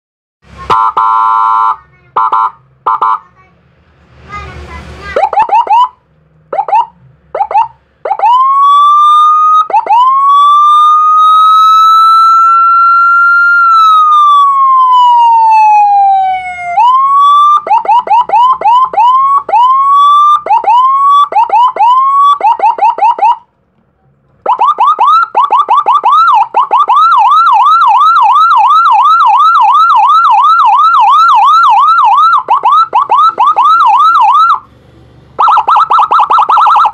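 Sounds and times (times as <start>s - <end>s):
fast siren yelp: 0.7s - 3.2s, 5.1s - 23.5s, 24.4s - 34.7s, 35.4s - 36.9s
electronic siren whoops and wail: 5.2s - 23.5s, 24.4s - 34.7s, 35.4s - 36.9s.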